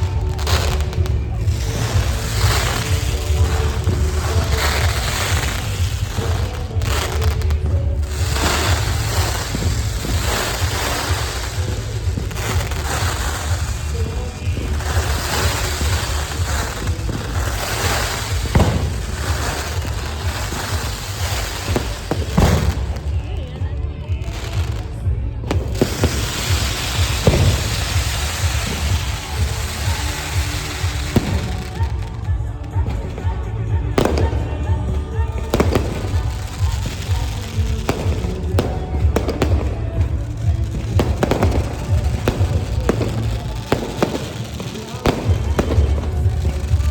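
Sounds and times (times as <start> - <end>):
fireworks bangs: 0.0 - 46.9
fireworks rumble: 0.0 - 46.9
music with pulsing bass: 0.0 - 46.9.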